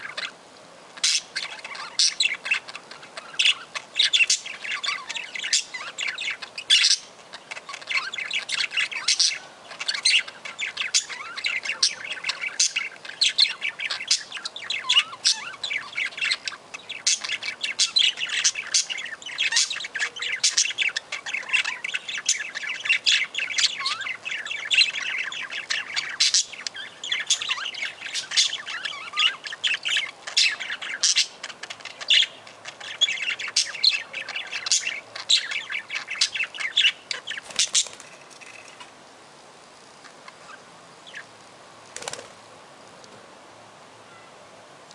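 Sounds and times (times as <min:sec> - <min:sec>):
budgerigars chattering: 0:00.0 - 0:00.4, 0:01.0 - 0:38.9.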